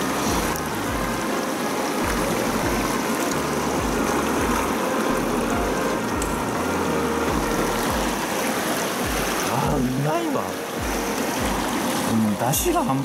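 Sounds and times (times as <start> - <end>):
mountain stream rushing: 0.0 - 13.0
soft background music: 0.0 - 13.0.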